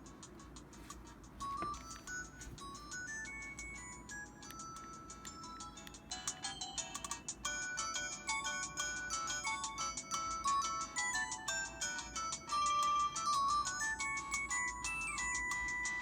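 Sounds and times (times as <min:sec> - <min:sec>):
electronic phone ringtone melody: 0:01.4 - 0:16.0.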